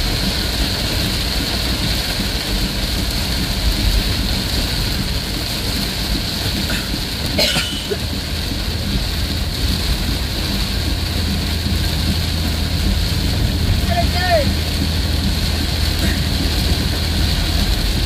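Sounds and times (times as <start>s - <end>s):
engine and road rumble: 0.0s - 18.0s
heavy rain on vehicle roof: 0.0s - 18.0s.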